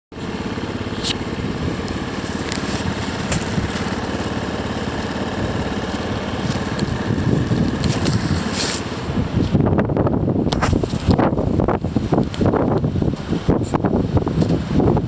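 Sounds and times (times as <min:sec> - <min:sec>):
wind buffeting microphone: 0:00.3 - 0:15.0.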